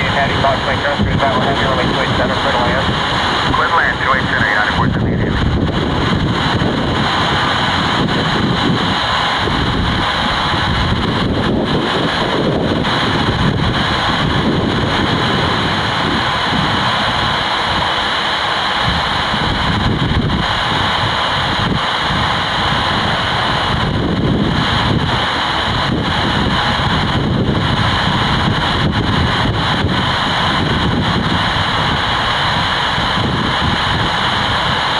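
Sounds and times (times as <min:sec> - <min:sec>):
jet engine noise: 0:00.0 - 0:34.9
wind buffeting microphone: 0:00.0 - 0:34.9.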